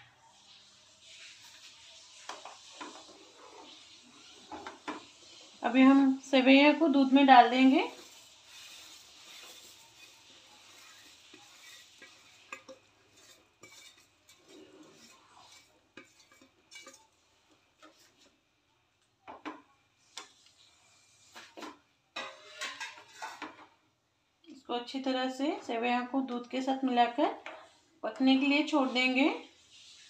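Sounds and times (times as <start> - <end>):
pasta rustling into pan: 0.0 - 24.0, 25.2 - 30.0.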